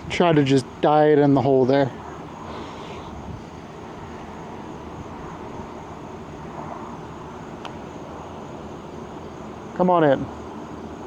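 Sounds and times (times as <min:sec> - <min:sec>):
outdoor rumble: 0:00.0 - 0:11.0.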